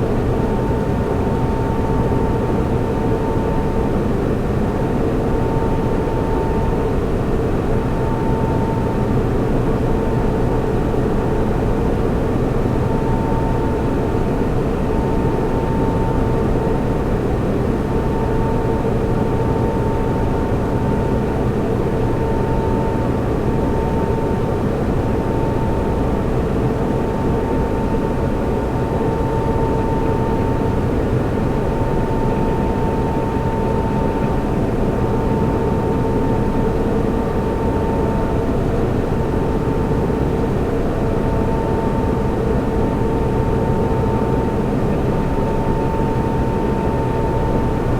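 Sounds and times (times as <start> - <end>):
cooling fans rushing: 0.0 - 47.9
thin steady whine: 0.0 - 47.9.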